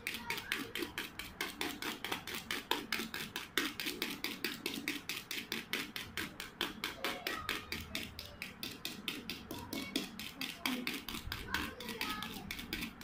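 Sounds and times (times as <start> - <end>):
whisk ticking against steel bowl: 0.0 - 13.0.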